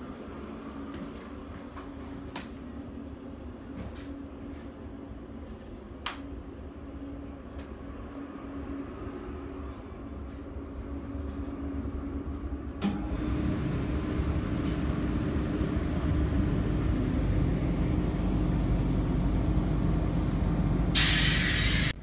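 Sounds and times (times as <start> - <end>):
electric train rumble and hum: 0.0 - 22.0.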